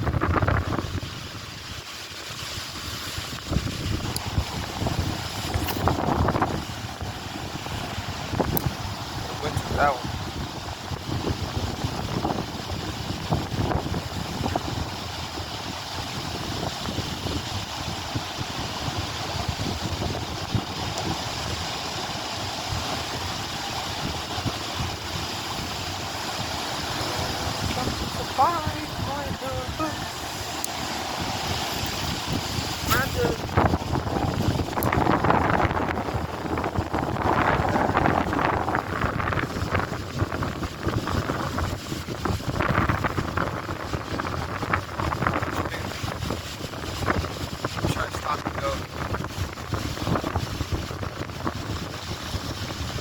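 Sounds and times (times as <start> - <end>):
gusts buffeting microphone: 0.0 - 53.0
lake water against shore: 0.0 - 53.0
wind rushing: 0.0 - 53.0.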